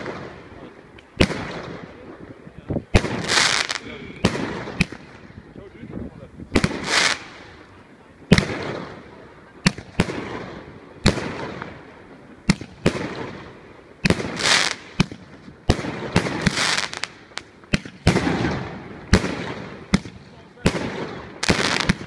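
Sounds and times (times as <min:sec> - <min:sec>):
firework crackle and hiss: 0:00.0 - 0:22.0.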